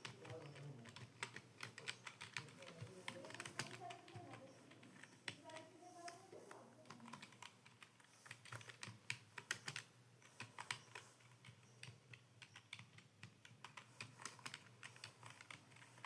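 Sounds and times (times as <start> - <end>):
computer keyboard typing: 0.0 - 16.0.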